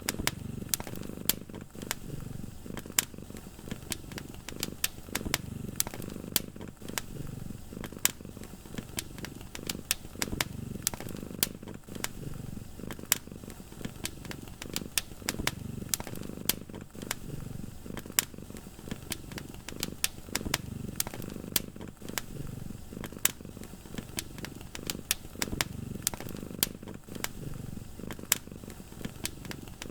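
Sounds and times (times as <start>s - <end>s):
cat purring: 0.0s - 29.9s
wood fire crackling: 0.0s - 29.9s.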